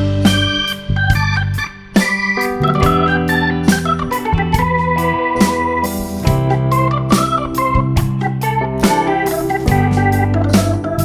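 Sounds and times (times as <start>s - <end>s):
organ-like keyboard chords: 0.0s - 11.0s
steady beat: 0.0s - 11.0s.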